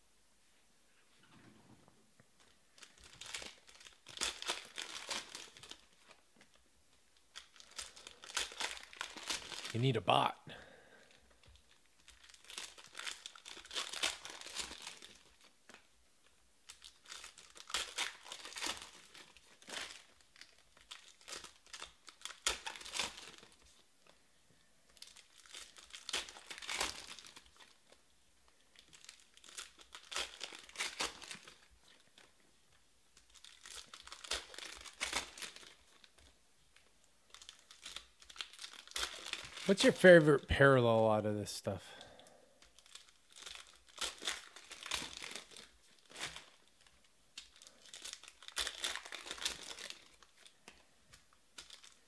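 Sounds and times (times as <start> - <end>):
foil wrappers crinkling: 2.4 - 6.6, 7.2 - 40.5, 41.9 - 52.0.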